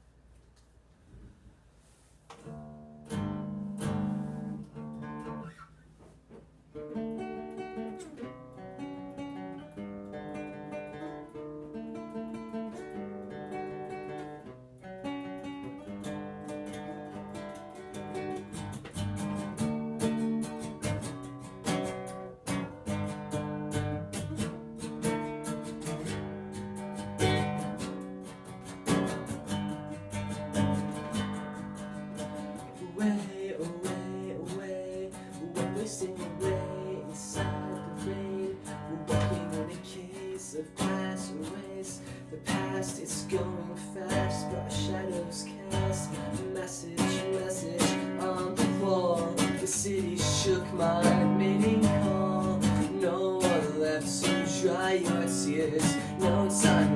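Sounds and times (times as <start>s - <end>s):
acoustic guitar plucked and strummed: 2.0s - 56.9s.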